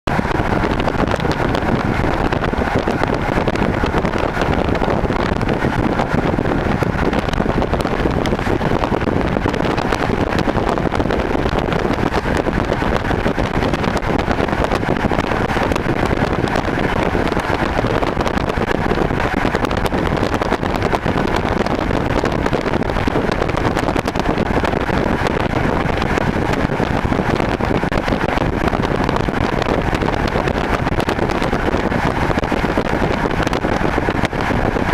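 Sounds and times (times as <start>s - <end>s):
faint steady whine: 0.1s - 34.9s
train wheels rumbling on rails: 0.1s - 34.9s.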